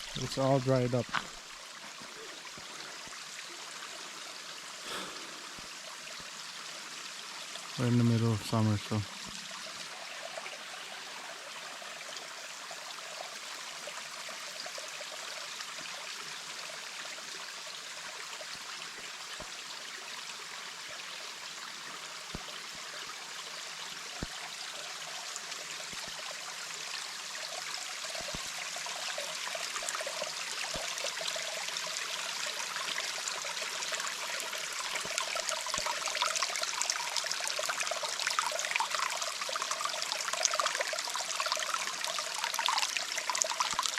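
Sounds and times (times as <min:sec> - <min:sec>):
small stream rushing and gurgling: 0:00.0 - 0:43.9.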